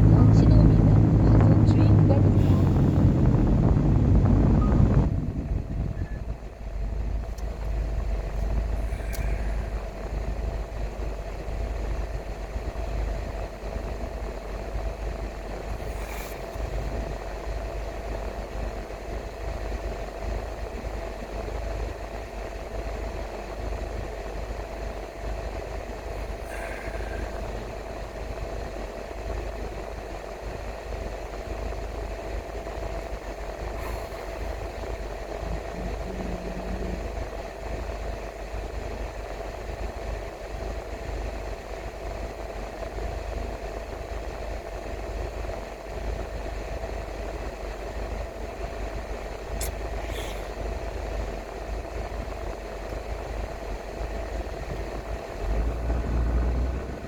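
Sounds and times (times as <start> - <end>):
car engine and tyres rumbling: 0.0 - 57.0
faint steady whine: 0.0 - 57.0.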